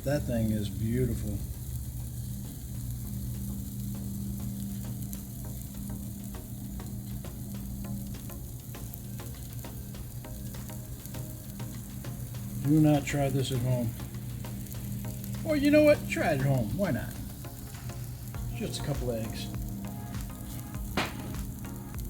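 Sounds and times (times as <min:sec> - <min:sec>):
low hum: 0:00.0 - 0:22.0
omelette sizzling on a griddle: 0:00.0 - 0:22.0.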